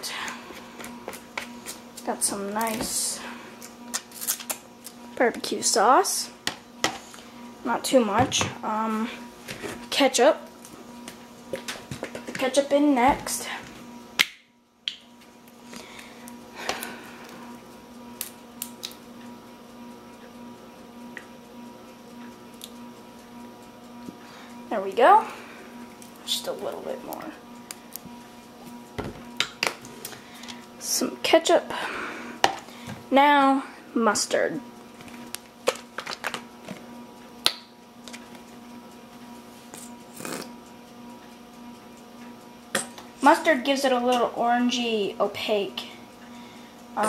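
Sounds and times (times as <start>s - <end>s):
faint hum: 0.0s - 47.0s.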